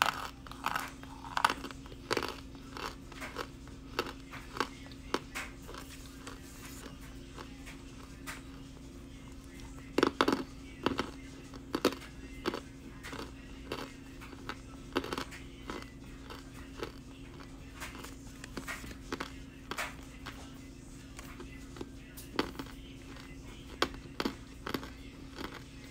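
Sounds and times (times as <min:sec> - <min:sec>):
crunchy snack being chewed: 0:00.0 - 0:08.6, 0:09.4 - 0:25.9
steady low hum: 0:00.0 - 0:25.9.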